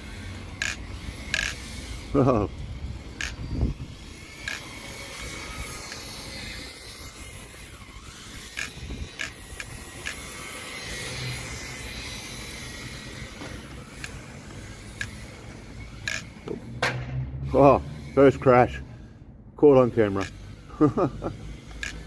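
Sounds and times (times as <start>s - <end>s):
rc car motor and tyres hissing: 0.0s - 16.8s, 17.4s - 22.0s.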